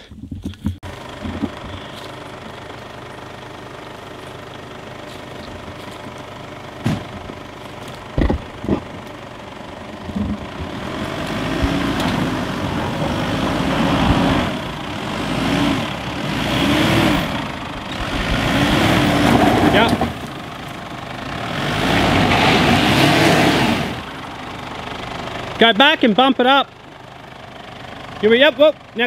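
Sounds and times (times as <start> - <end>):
engine idling and revving: 0.4 - 29.0.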